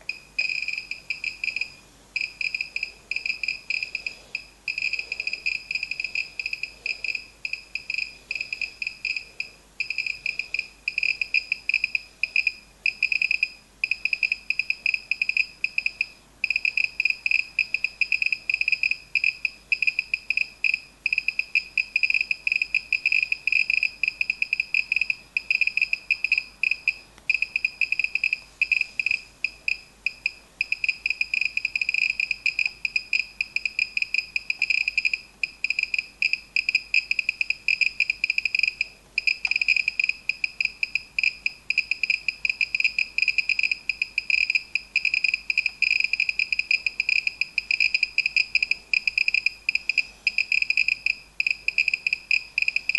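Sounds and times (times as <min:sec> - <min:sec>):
geiger counter rapid beeping: 0:00.0 - 0:52.9.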